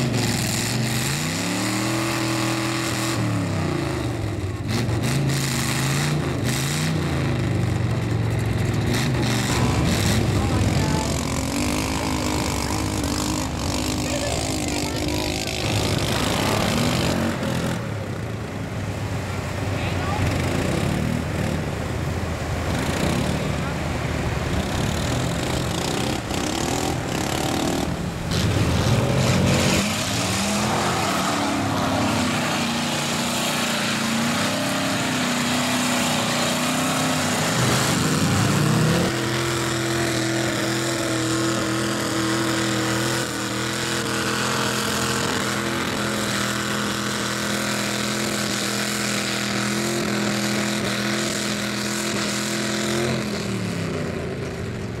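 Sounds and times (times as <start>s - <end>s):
engines revving in mud: 0.0s - 55.0s.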